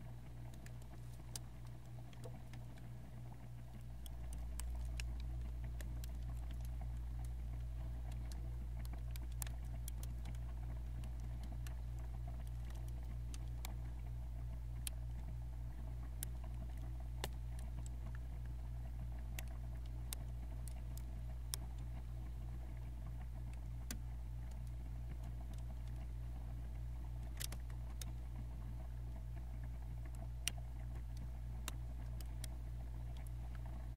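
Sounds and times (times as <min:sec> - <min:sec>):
freezer humming: 0:00.0 - 0:33.9.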